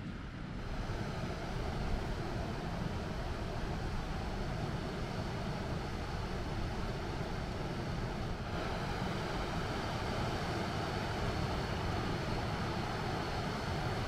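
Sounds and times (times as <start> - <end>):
river rushing over a weir: 0.6 - 14.0.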